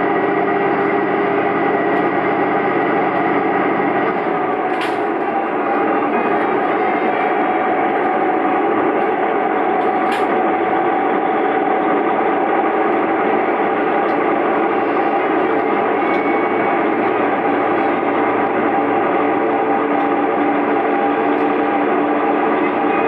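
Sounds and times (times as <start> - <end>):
train rumble of engine and wheels: 0.0 - 23.0.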